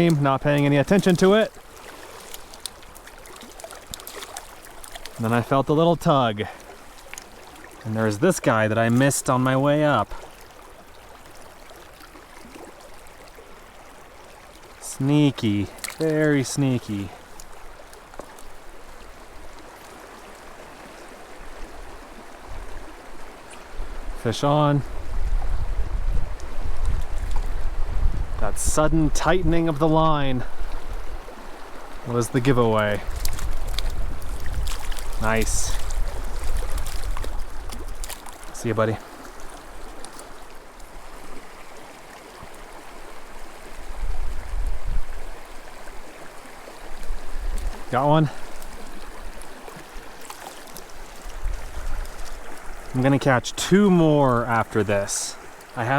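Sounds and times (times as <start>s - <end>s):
creek water running: 0.0s - 55.9s.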